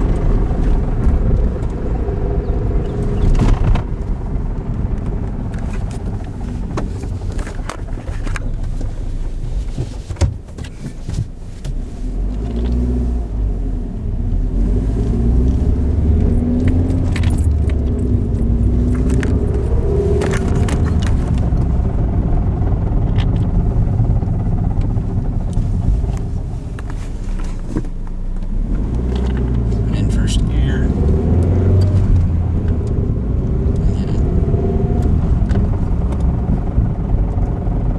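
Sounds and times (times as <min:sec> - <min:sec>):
transmission rattling and clicking: 0:00.0 - 0:12.9, 0:14.7 - 0:37.9
engine and road rumble: 0:00.0 - 0:37.9.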